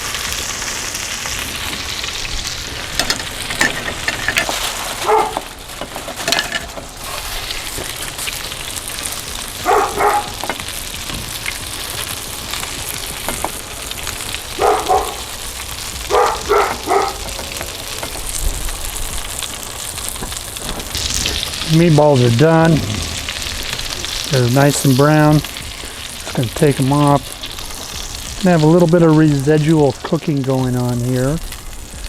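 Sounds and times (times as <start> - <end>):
meatballs sizzling in a skillet: 0.0 - 32.0.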